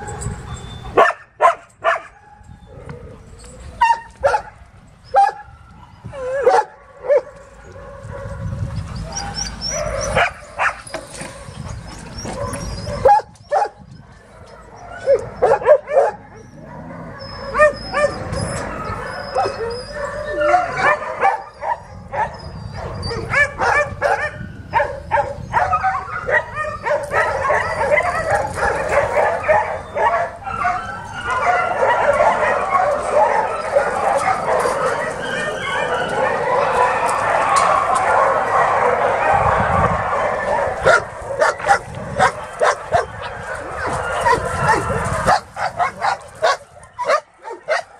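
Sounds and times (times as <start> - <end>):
dogs barking and whining: 0.0 - 47.9.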